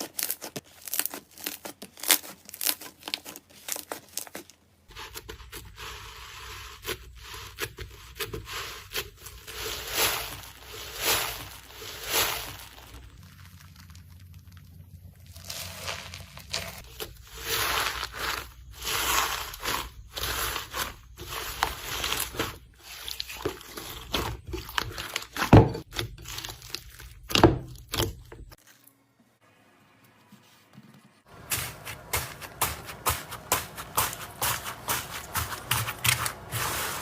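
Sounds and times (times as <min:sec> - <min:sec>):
slime crackling and squelching: 0:00.0 - 0:29.0, 0:31.3 - 0:37.0.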